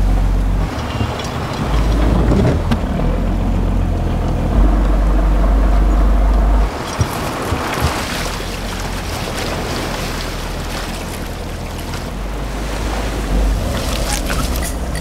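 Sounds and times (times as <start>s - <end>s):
low rumble: 0.0s - 15.0s
sea waves washing: 0.0s - 15.0s
wind blowing: 0.0s - 15.0s.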